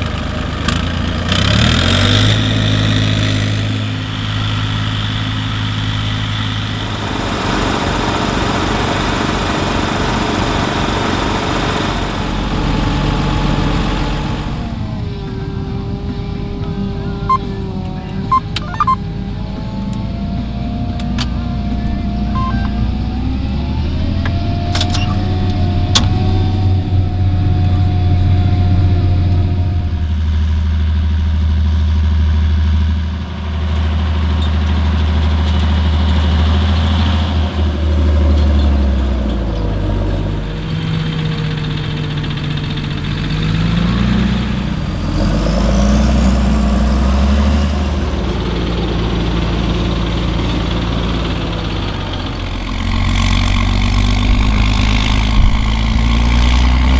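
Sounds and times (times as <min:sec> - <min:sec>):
diesel farm machinery engines: 0:00.0 - 0:56.9.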